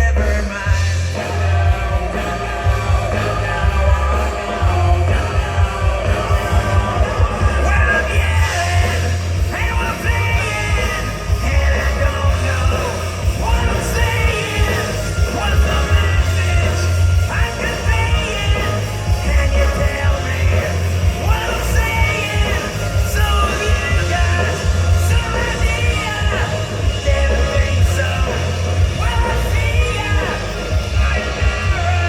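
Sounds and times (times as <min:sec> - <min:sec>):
distorted rock band: 0:00.0 - 0:32.0
lead vocal singing: 0:00.0 - 0:32.0.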